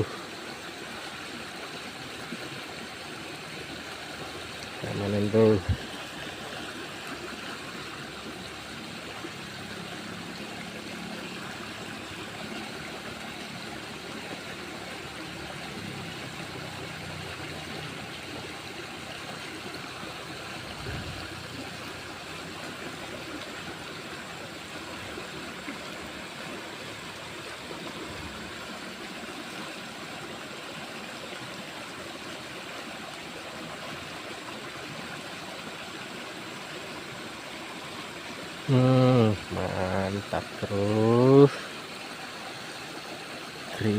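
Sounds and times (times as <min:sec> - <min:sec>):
flowing water rushing: 0:00.0 - 0:43.9.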